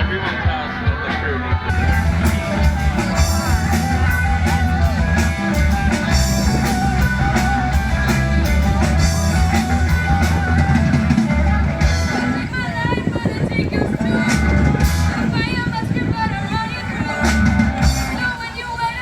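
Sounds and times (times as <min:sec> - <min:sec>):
drum kit beat: 0:00.0 - 0:12.8, 0:14.1 - 0:15.6, 0:17.2 - 0:18.2
guitar: 0:00.0 - 0:19.0.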